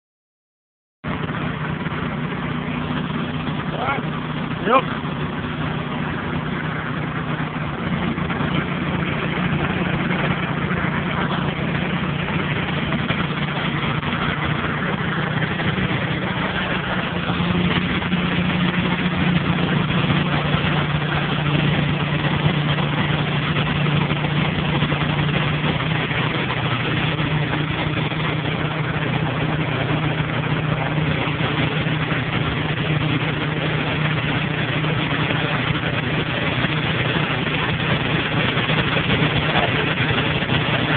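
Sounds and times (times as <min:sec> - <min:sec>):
engine running steadily: 0:01.0 - 0:40.9.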